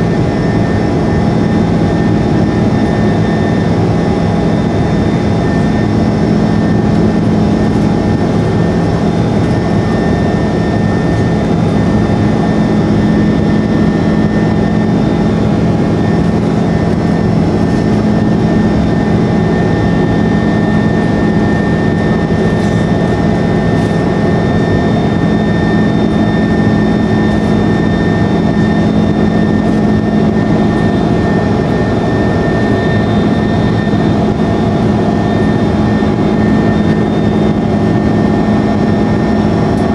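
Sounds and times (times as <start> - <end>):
constant whining tones: 0.0 - 39.9
jet engine and airflow roar: 0.0 - 39.9.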